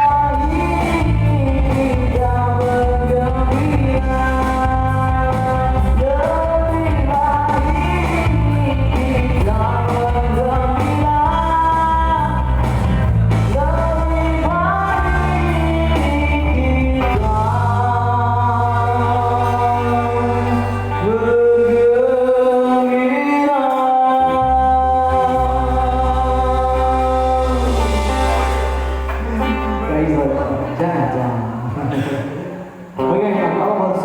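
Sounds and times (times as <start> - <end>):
person singing long sliding notes: 0.0 - 33.2
live pop-rock band playing: 0.0 - 34.0.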